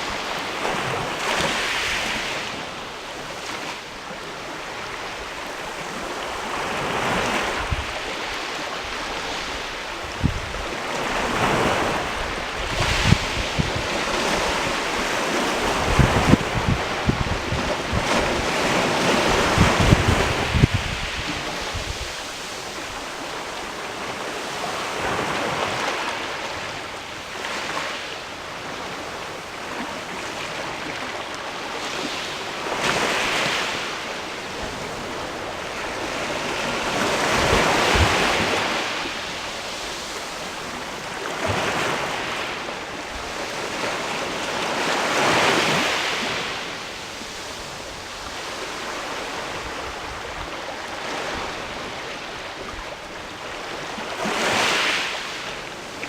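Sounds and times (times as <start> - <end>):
waves on rocky shore: 0.0 - 56.0.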